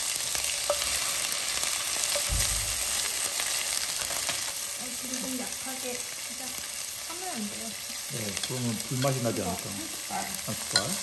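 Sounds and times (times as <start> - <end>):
garlic and onion sizzling in oil: 0.0 - 11.0
utensil stirring in pan: 0.0 - 11.0.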